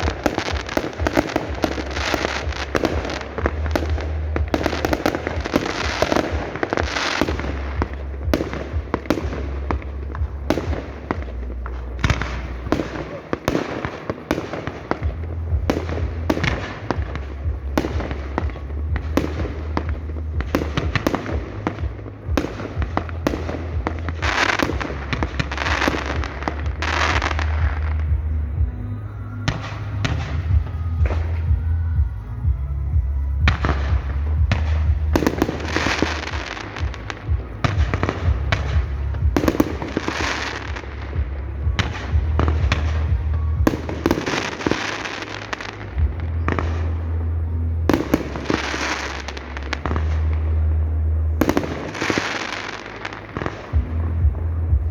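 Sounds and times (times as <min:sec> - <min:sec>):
deep rumble: 0:00.0 - 0:54.9.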